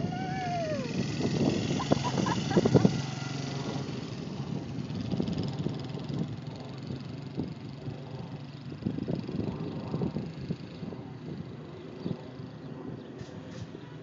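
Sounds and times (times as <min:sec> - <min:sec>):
dirt bike engine passing by: 0:00.0 - 0:12.6.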